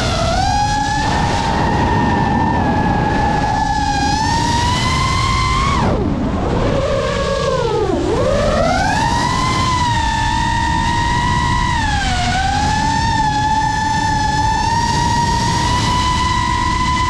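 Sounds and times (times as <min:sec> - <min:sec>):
drone motors whining: 0:00.0 - 0:17.0
steady rushing noise: 0:00.0 - 0:17.0.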